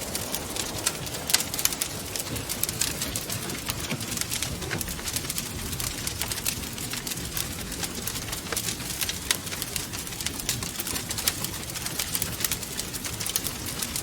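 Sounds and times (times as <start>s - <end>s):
low rush of wind: 0.0s - 14.0s
wood fire crackling: 0.0s - 14.0s.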